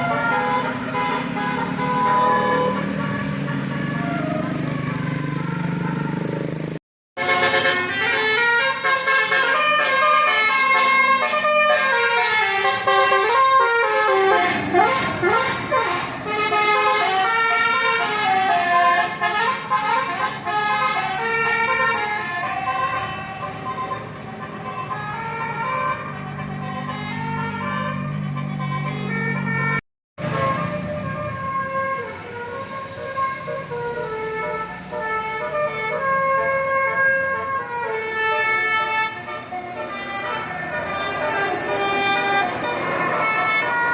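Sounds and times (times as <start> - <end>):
musical air horn playing a tune: 0.0 - 5.0, 7.2 - 43.9.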